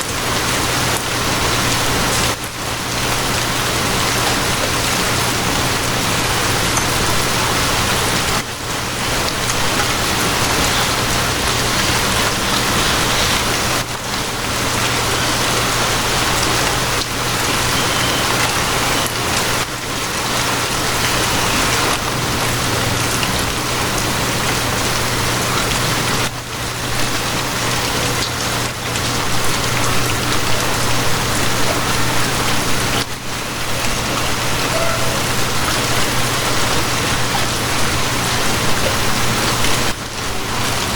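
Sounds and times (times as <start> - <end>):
rain hissing: 0.0 - 40.9.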